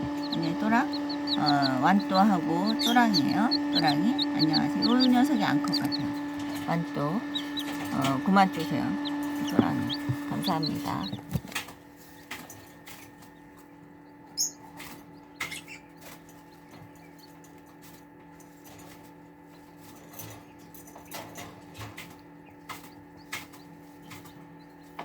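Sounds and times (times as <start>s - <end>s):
low hum: 0.0s - 21.0s
chickens pecking and scratching: 0.0s - 25.0s.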